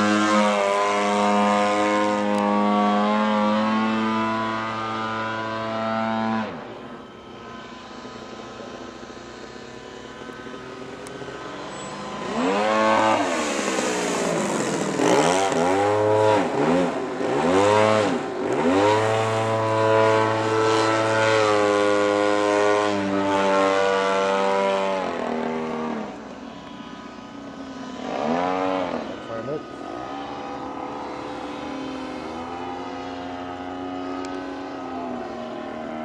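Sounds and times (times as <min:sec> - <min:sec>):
model plane engine revving: 0:00.0 - 0:36.0.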